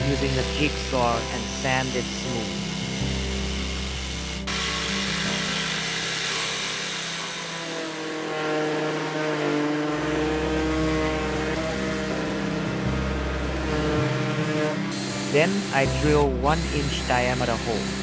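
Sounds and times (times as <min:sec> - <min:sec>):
power tool motor running: 0:00.0 - 0:18.0.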